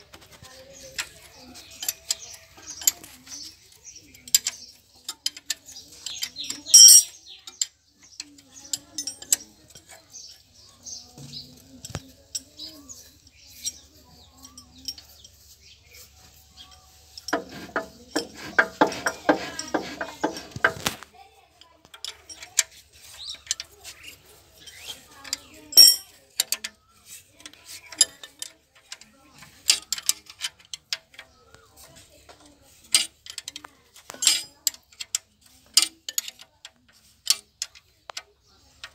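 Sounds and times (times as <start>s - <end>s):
metal tools clinking on metal: 0.6s - 38.9s.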